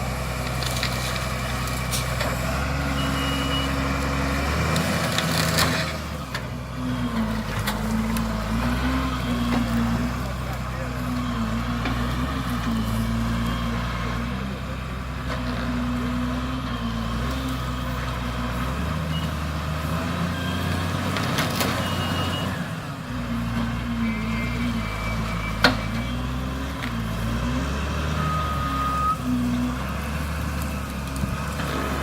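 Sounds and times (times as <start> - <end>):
diesel engine under load: 0.0 - 32.0
hydraulic tree shear cutting: 0.0 - 32.0.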